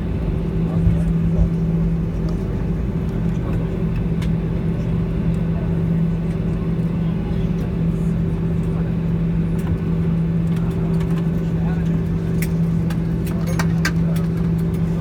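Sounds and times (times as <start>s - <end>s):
airliner cabin engine hum: 0.0s - 15.0s.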